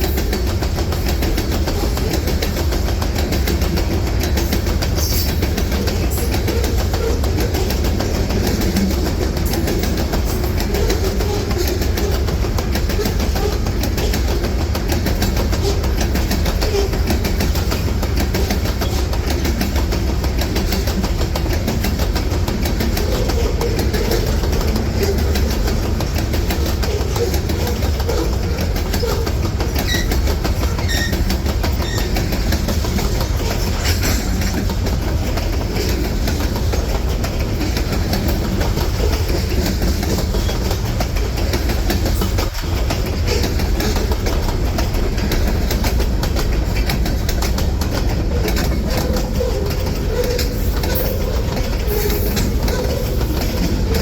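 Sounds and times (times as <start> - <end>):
freight train cars rolling past: 0.0 - 54.0
wheels clacking over rail joints: 0.0 - 54.0.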